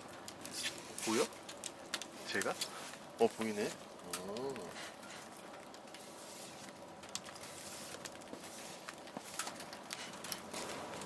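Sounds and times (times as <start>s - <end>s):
wood fire crackling in stove: 0.0s - 11.0s.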